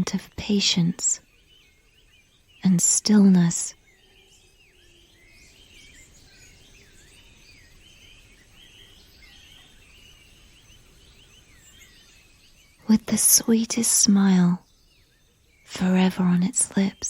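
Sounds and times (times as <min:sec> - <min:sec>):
birds chirping and warbling: 0:00.0 - 0:17.0
steady low hiss: 0:00.0 - 0:17.0.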